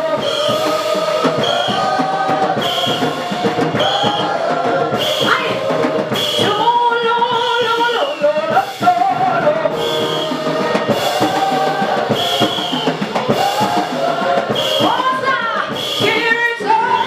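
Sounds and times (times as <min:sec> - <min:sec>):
drum kit beat with cymbals: 0:00.0 - 0:17.0
gospel music through a pa: 0:00.0 - 0:17.0.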